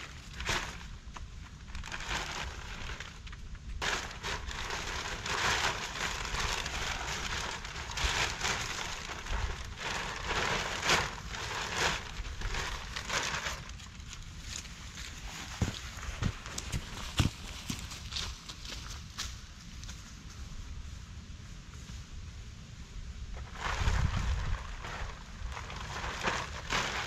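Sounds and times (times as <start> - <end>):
plastic sheeting rustling: 0.0 - 18.9, 23.4 - 27.0.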